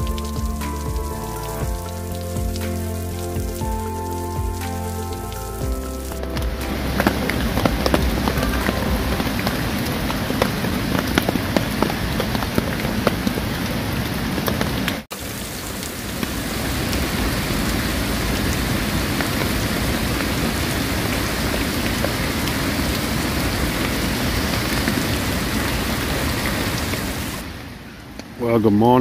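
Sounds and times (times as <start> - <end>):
heavy rain: 0.0 - 28.8.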